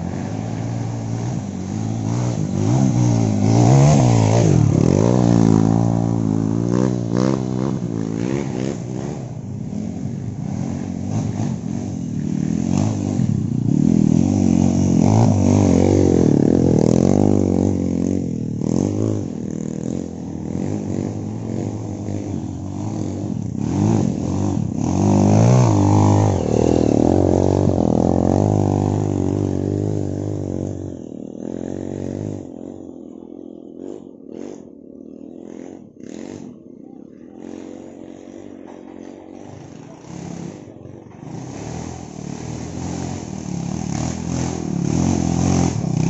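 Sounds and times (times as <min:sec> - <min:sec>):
motorcycle engine revving hard: 0:00.0 - 0:46.0.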